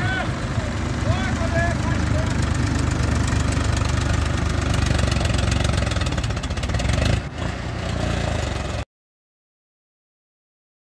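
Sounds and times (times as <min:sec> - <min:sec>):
tractor diesel engines chugging: 0:00.0 - 0:08.8.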